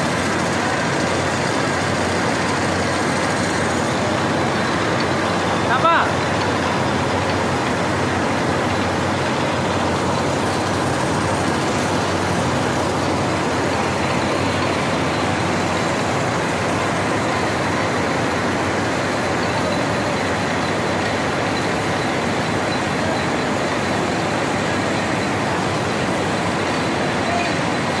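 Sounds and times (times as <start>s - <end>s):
cotton gin machines running: 0.0s - 28.0s.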